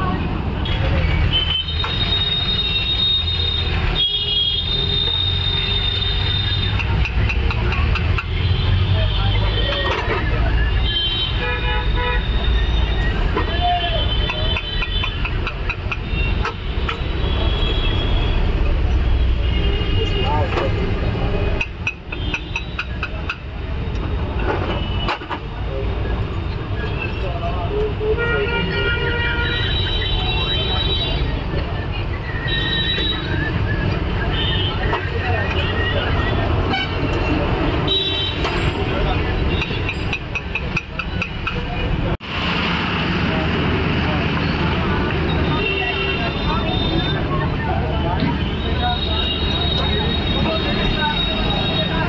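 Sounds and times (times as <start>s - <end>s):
street traffic engine rumble: 0.0s - 52.0s.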